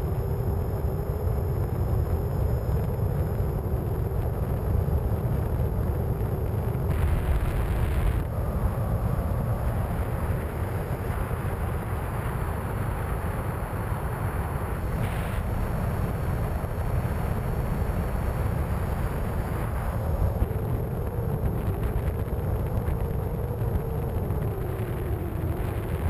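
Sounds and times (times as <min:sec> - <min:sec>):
wind rush and rumble: 0:00.0 - 0:26.0.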